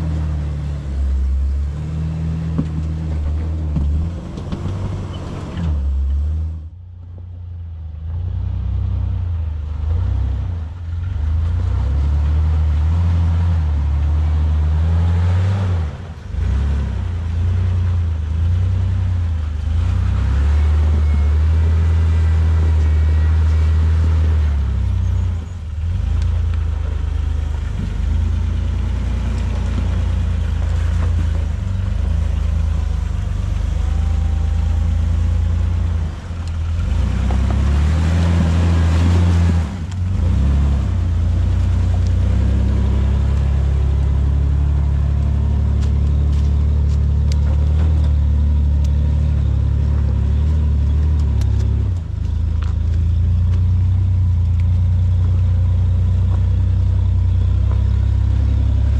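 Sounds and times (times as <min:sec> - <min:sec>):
car engine humming: 0:00.0 - 0:58.9.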